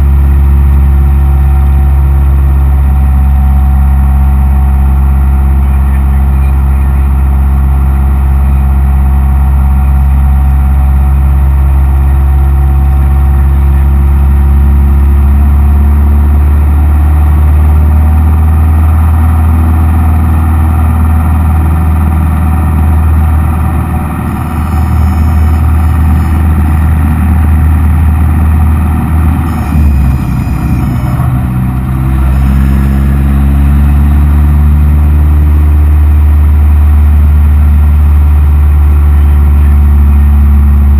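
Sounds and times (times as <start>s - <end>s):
aircraft engine and propeller: 0.0s - 40.9s.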